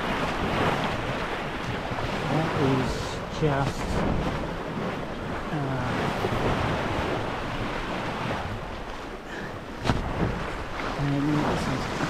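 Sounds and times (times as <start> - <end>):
water rushing past boat hull: 0.0 - 12.0
wind on microphone: 0.0 - 12.0.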